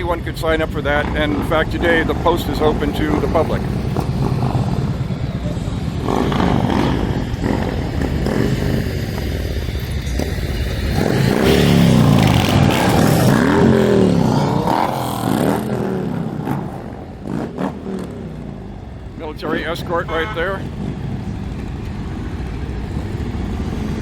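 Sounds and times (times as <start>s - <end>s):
motorcycles riding past: 0.0s - 24.0s.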